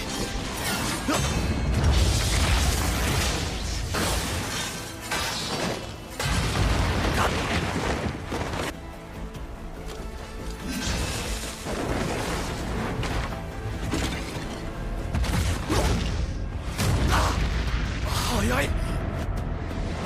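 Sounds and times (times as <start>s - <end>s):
dramatic fight music: 0.0s - 20.0s.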